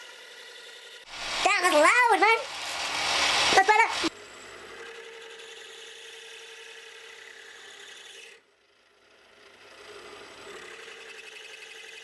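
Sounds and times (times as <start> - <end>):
metal lathe scraping rasp: 0.0 - 1.6, 2.4 - 12.0.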